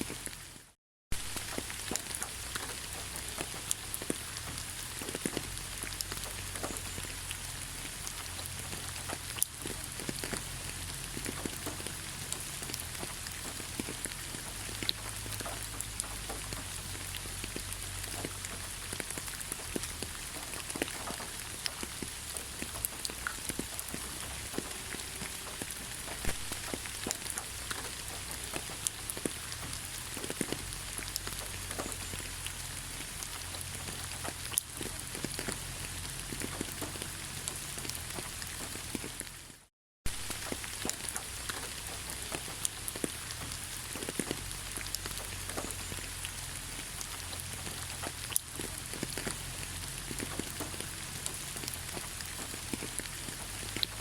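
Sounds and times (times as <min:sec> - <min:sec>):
raindrops pattering close by: 0:00.0 - 0:54.0
steady rain hiss: 0:00.0 - 0:54.0.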